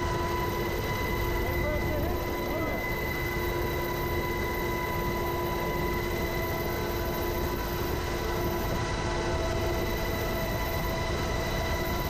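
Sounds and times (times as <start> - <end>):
helicopter engines and rotor drone: 0.0 - 12.0.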